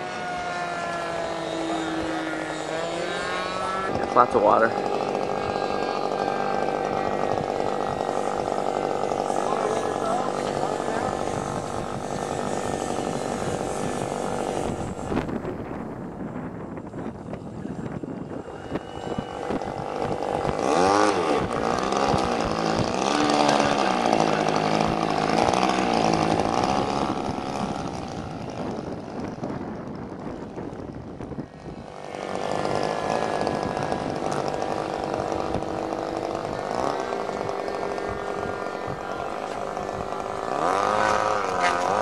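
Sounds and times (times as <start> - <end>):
model airplane engine buzzing: 0.0 - 42.0.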